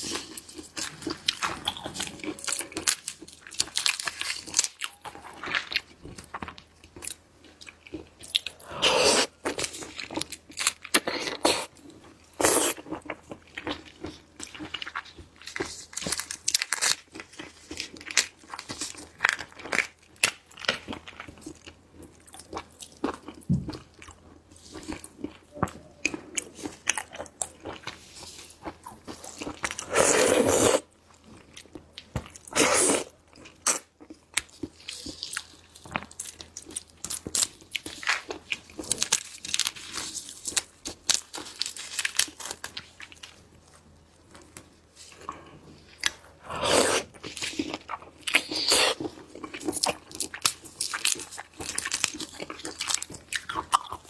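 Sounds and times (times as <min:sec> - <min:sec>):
crunchy eating and chewing: 0:00.0 - 0:54.0.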